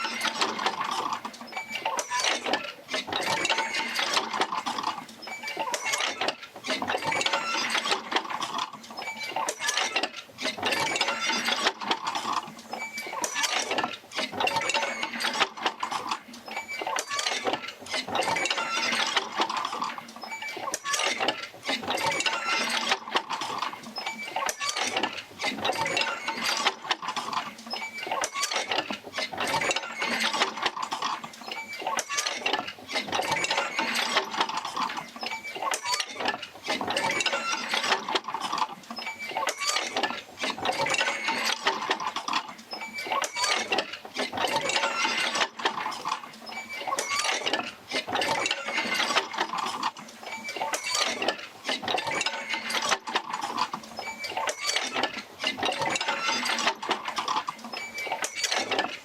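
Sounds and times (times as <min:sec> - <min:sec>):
machinery clanking and squeaking: 0:00.0 - 0:59.0.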